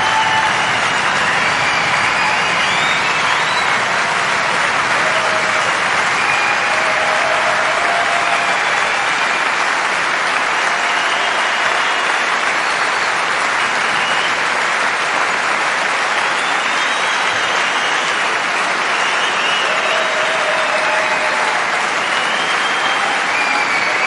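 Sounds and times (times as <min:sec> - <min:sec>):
large audience applauding: 0:00.0 - 0:24.0.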